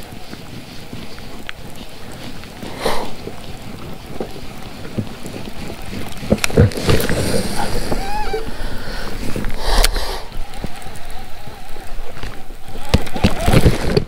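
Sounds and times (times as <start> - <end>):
brief rustle: 0.0 - 14.0
wind buffeting microphone: 0.0 - 14.0.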